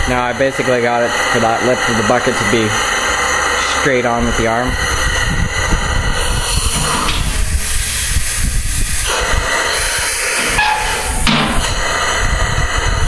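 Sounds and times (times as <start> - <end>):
compressed air hissing: 0.0 - 13.0
low rumble: 0.0 - 13.0.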